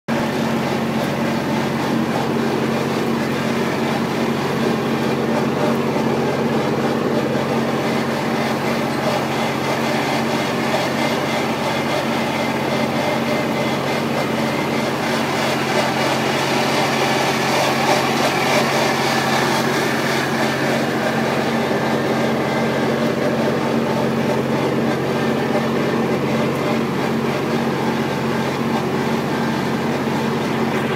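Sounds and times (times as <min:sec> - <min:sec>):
tractor engine running: 0:00.1 - 0:30.9.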